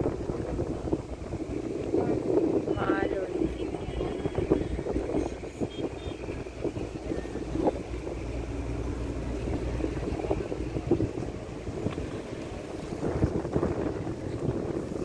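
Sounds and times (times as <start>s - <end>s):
boat motor humming: 0.0s - 15.0s
water splashing past hull: 0.0s - 15.0s
wind buffeting microphone: 0.0s - 15.0s.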